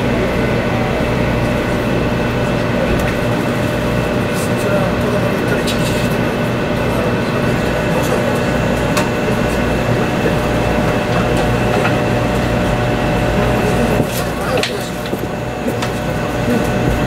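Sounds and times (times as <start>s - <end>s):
train cabin rumble and hum: 0.0s - 17.0s.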